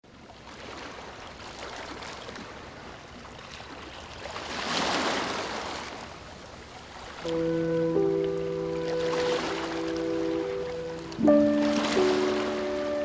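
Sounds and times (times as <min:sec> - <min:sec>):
ocean waves washing on shore: 0:00.1 - 0:13.0.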